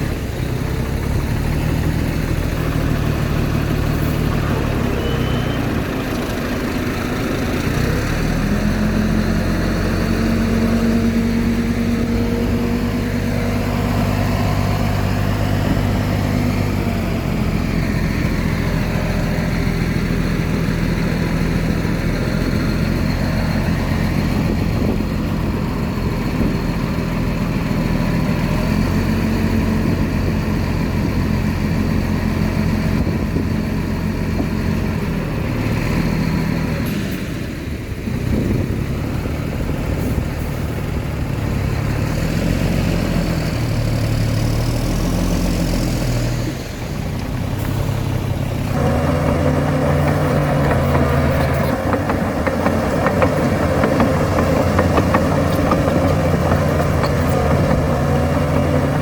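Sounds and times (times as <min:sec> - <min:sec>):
diesel engines of earthmoving machinery: 0:00.0 - 0:59.0.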